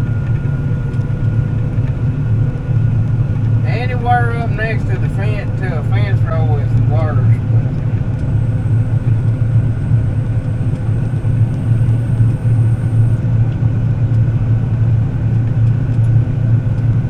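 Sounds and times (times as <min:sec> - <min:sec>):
combine harvester drone: 0:00.0 - 0:17.0
high machine whines: 0:00.0 - 0:17.0.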